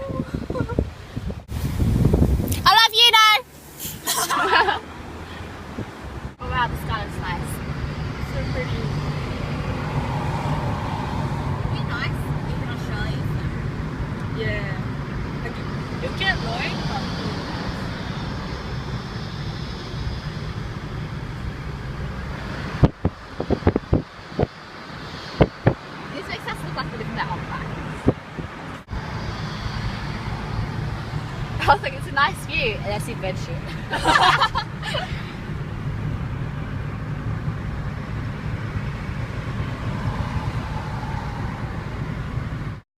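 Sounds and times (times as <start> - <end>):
road noise rumble and hiss: 0.0 - 42.8.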